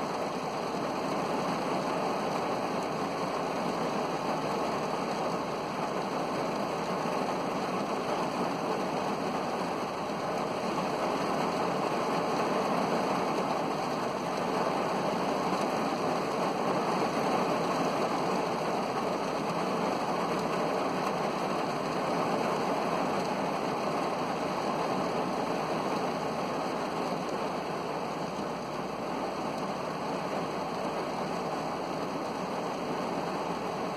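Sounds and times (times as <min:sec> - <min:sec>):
heavy rain on car roof: 0:00.0 - 0:33.9.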